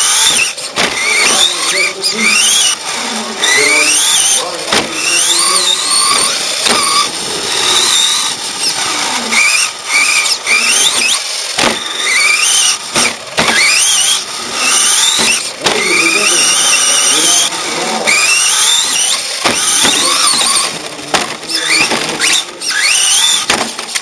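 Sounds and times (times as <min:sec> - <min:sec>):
toy car motor whining: 0:00.0 - 0:24.0.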